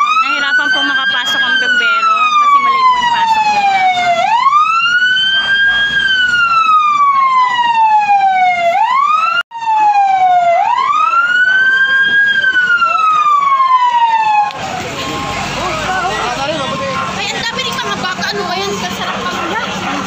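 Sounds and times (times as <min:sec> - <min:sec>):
fire truck siren wailing: 0:00.0 - 0:20.0.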